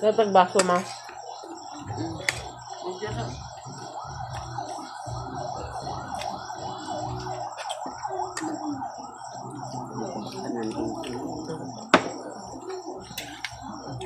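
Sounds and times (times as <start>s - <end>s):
electronic siren wail: 0.0s - 14.0s
low steady hum: 0.0s - 14.0s.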